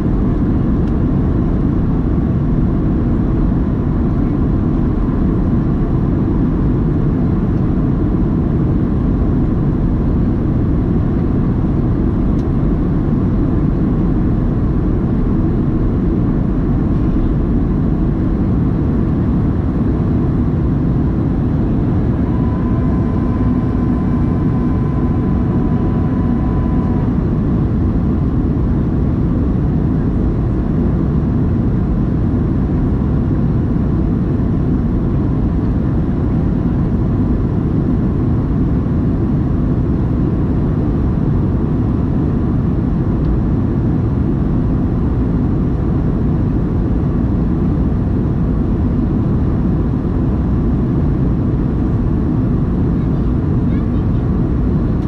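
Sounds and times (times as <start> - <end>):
high engine whine: 0.0 - 55.0
jet engine rush in cabin: 0.0 - 55.0.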